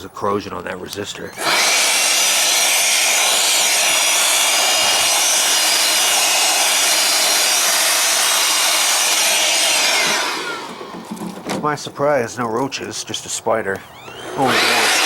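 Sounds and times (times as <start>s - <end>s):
electric air blower whining: 1.1s - 11.8s, 13.0s - 15.0s.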